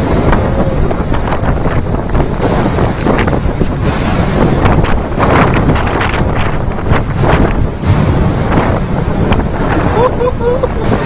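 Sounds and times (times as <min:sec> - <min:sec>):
debris flow rumbling roar: 0:00.0 - 0:11.0.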